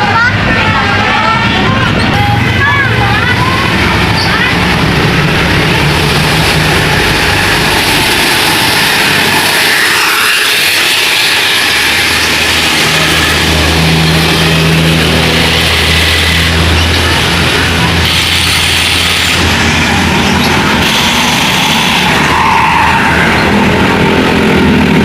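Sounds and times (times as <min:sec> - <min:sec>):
deep engine: 0:00.0 - 0:25.0
heavy vehicles driving past: 0:00.0 - 0:25.0
road noise: 0:00.0 - 0:25.0.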